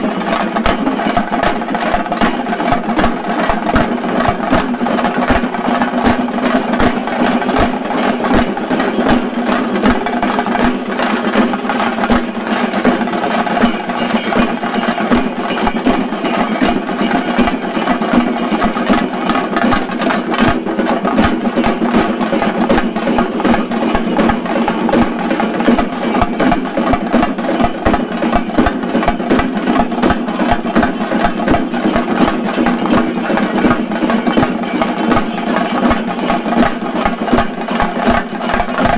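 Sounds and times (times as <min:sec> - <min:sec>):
drums beating fast rhythm: 0:00.0 - 0:38.9.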